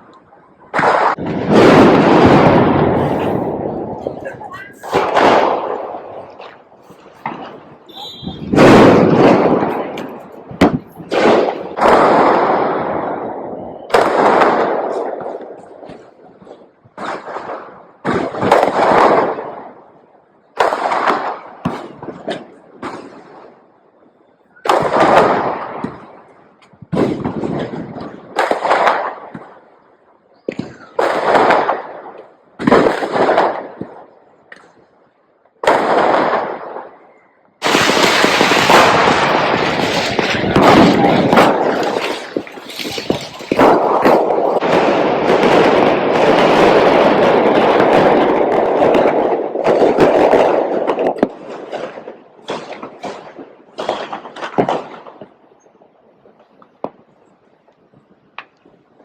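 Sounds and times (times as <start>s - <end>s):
firecrackers banging with echo: 0.0s - 23.8s, 24.4s - 55.5s
firecrackers crackling: 0.0s - 59.0s.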